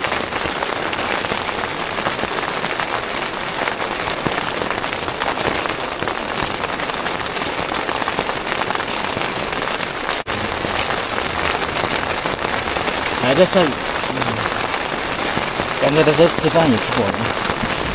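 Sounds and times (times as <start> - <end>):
rain pattering on a tent: 0.0 - 17.9.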